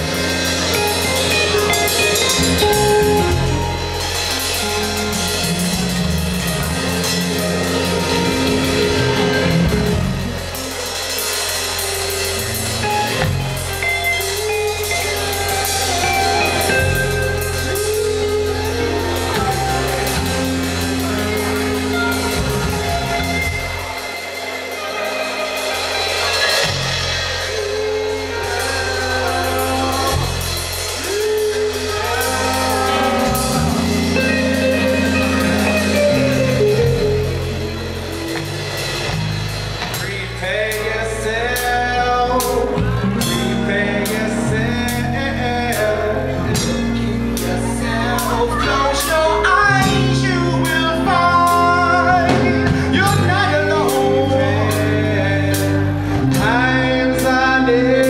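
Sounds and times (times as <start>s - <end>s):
person singing: 0.0s - 39.0s, 39.8s - 58.0s
drum kit: 0.0s - 58.0s
electric bass: 0.0s - 58.0s
electric guitar: 0.0s - 58.0s.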